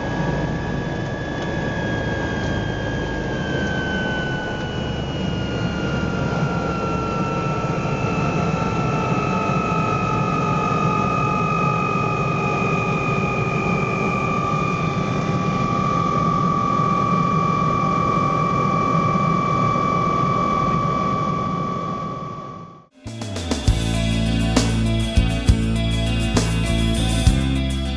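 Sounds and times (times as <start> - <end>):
helicopter rotor rush: 0.0 - 21.7, 23.0 - 27.9
turbine whine: 0.0 - 27.9.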